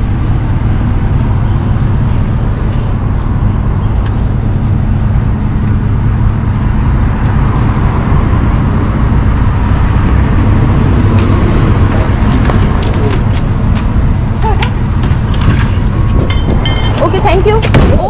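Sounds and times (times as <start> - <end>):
low engine rumble: 0.0 - 18.0
road traffic: 0.0 - 18.0.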